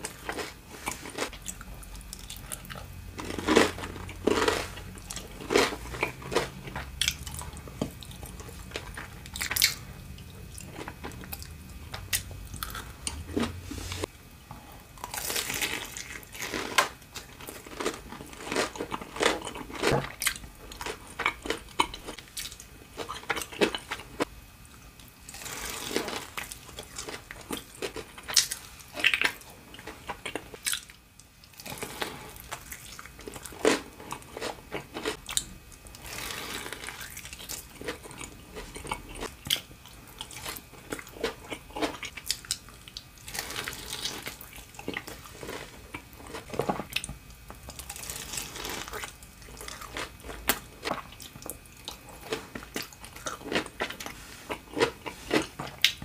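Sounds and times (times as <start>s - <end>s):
crunchy food chewing: 0.0s - 14.1s, 15.0s - 56.0s.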